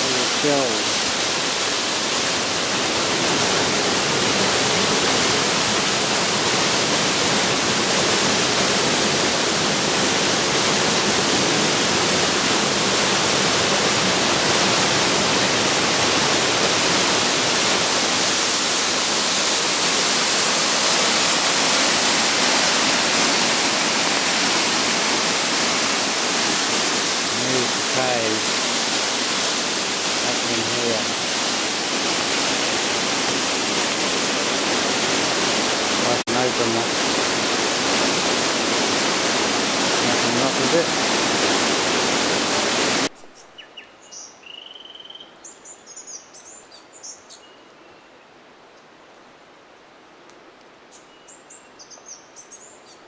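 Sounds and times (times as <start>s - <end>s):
river rushing: 0.0s - 43.1s.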